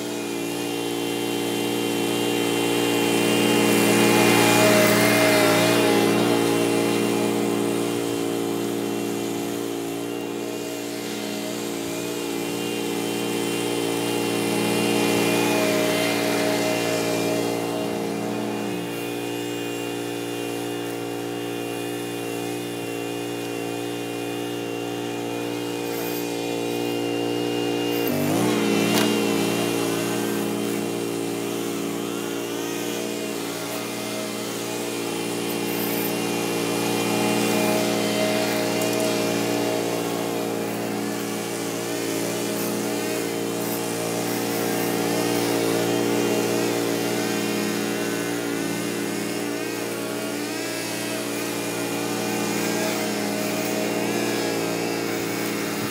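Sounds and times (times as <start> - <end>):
faint string trimmer: 0.0 - 55.9
lawn mower engine running: 0.0 - 55.9.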